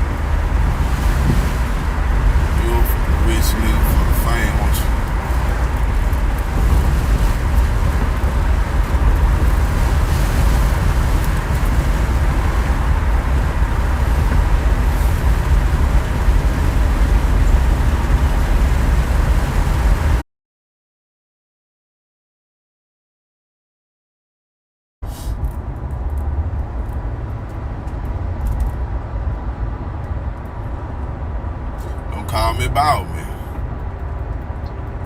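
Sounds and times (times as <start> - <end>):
car cabin road rumble: 0.0 - 20.2, 25.0 - 35.0.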